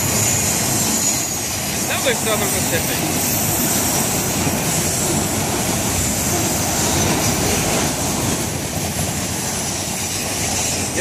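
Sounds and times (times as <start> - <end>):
train wheels rolling on rail: 0.0 - 11.0.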